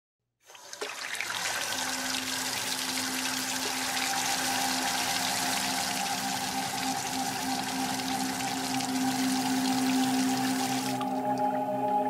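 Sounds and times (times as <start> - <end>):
water running: 0.4 - 11.7.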